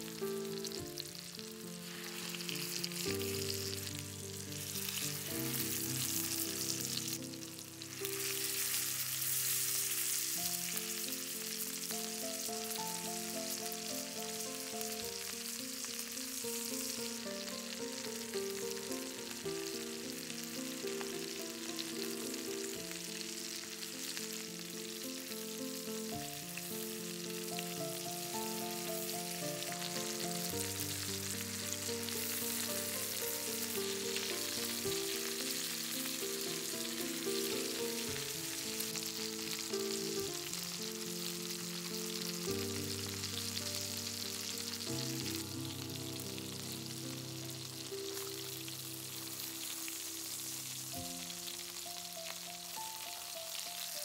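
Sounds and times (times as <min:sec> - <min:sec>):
chicken sizzling in skillet: 0:00.0 - 0:54.0
soft melodic background music: 0:00.0 - 0:54.0.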